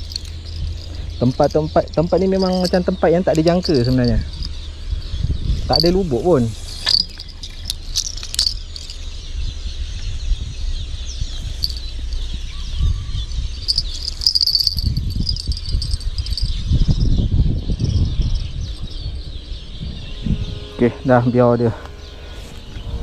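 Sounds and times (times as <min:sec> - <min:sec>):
insects chirring: 0:00.0 - 0:23.0
low microphone rumble: 0:00.0 - 0:23.0.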